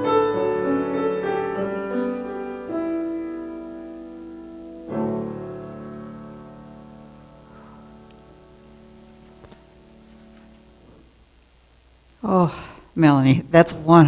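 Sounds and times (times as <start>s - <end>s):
piano chords ringing: 0.0s - 12.1s.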